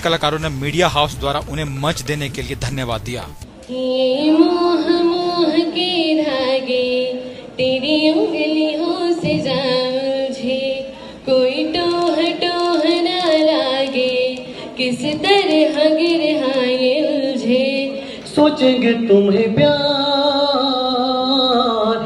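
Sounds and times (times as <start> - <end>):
woman singing unaccompanied: 3.6 - 22.0.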